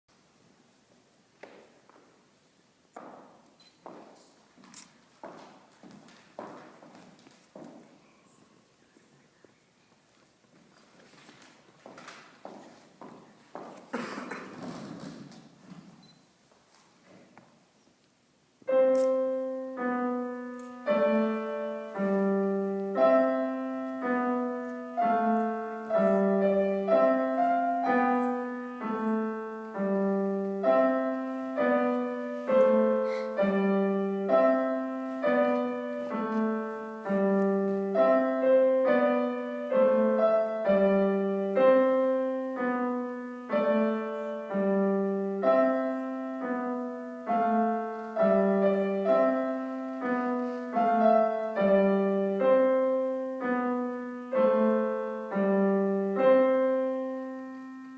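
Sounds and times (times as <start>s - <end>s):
slow piano tune: 0.1s - 16.4s, 18.5s - 57.9s.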